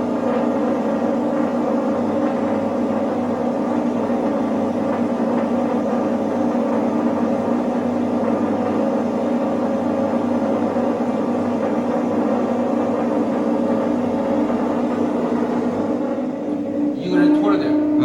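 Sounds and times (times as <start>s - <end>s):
steady machinery hum: 0.0s - 18.0s.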